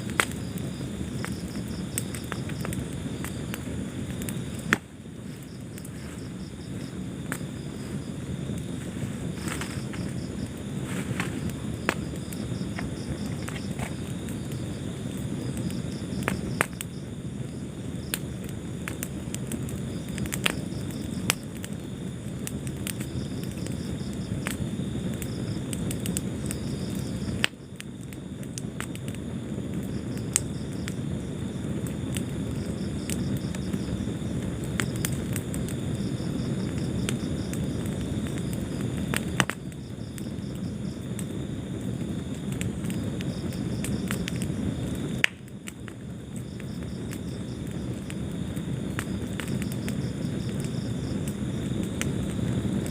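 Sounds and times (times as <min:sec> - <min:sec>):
fire crackling and popping: 0:00.0 - 0:52.9
flames rumbling: 0:00.0 - 0:52.9.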